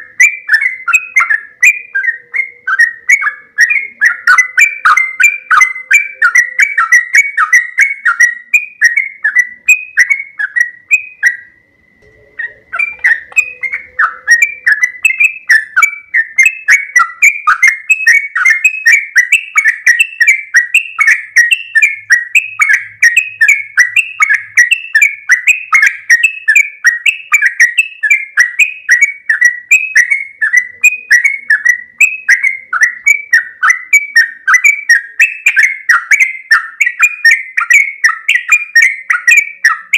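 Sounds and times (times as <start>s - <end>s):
bird singing bubbly notes: 0.0s - 39.9s.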